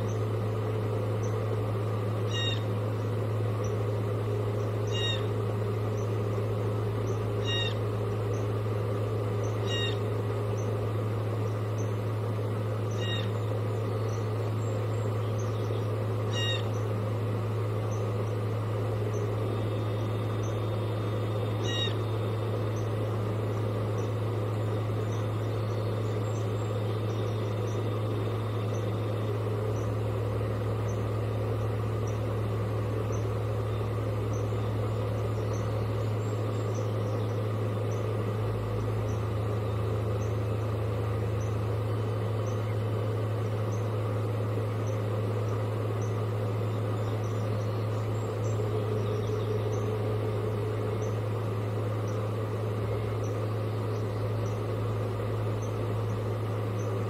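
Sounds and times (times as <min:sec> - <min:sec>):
bird calls: 0:00.0 - 0:57.0
low electrical hum: 0:00.0 - 0:57.0.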